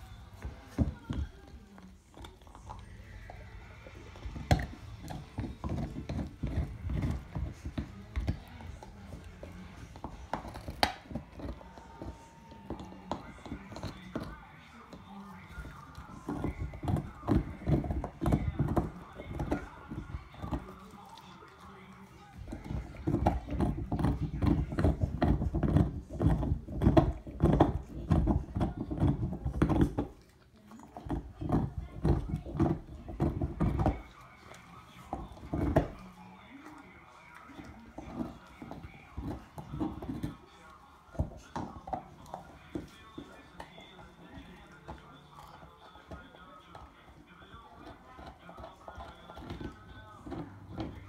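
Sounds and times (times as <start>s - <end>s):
dog gnawing antler: 0.0s - 51.0s.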